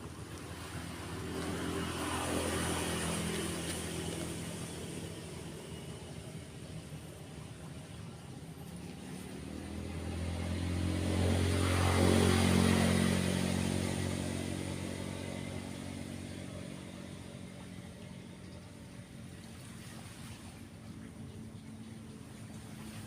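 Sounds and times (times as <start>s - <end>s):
vehicle driving past: 0.0s - 8.0s, 8.6s - 23.0s
surf: 0.0s - 23.0s.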